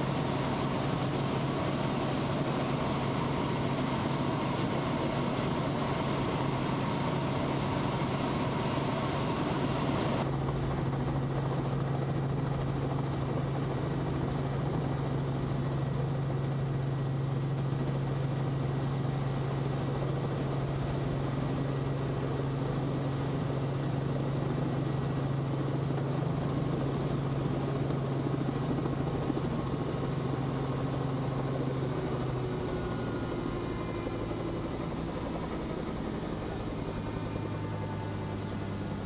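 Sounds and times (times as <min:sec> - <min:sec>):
helicopter engine and rotor drone: 0:00.0 - 0:39.0.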